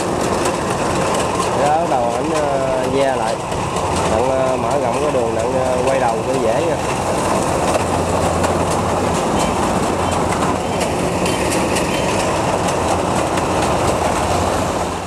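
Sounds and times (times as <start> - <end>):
harvester header clattering: 0.0 - 14.7
diesel engine drone: 0.0 - 15.0.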